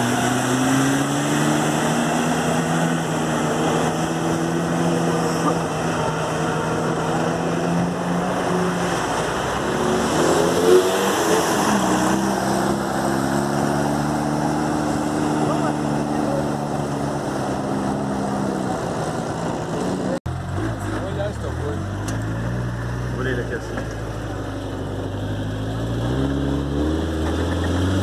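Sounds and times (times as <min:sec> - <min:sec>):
vehicle engine running under load: 0:00.0 - 0:28.0.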